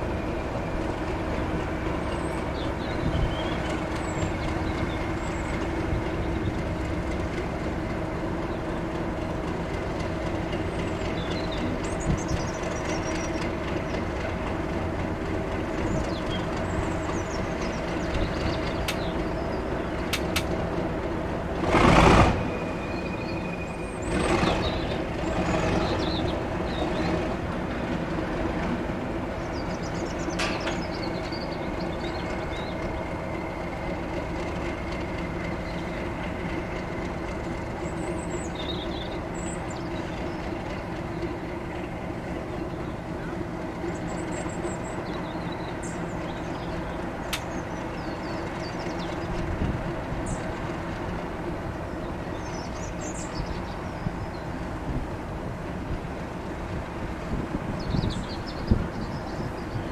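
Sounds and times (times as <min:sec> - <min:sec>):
locomotive engine humming: 0:00.0 - 0:59.9.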